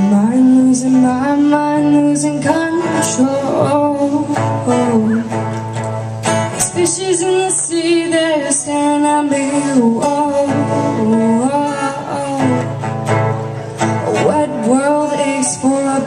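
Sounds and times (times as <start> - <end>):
person singing: 0.0 - 5.5, 6.5 - 13.2, 13.8 - 16.0
plucked guitar: 0.0 - 16.0.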